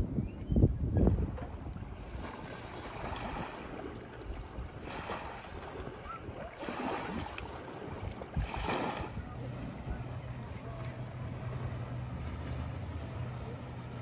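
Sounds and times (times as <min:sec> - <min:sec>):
wind rumble on microphone: 0:00.0 - 0:14.0
waves washing against shore: 0:01.1 - 0:14.0.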